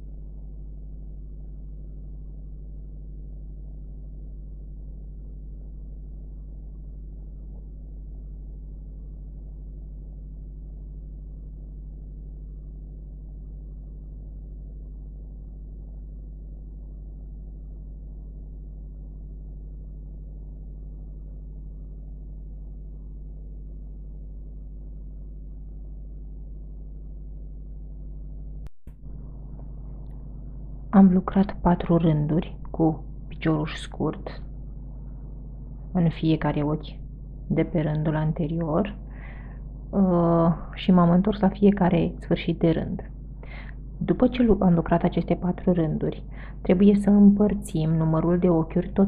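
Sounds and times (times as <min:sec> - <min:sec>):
low hum with held tones: 0:00.0 - 0:49.0.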